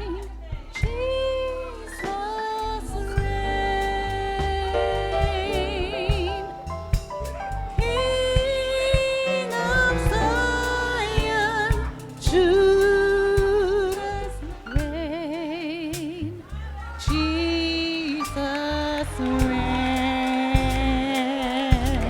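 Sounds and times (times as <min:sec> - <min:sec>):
gospel band playing: 0:00.0 - 0:22.0.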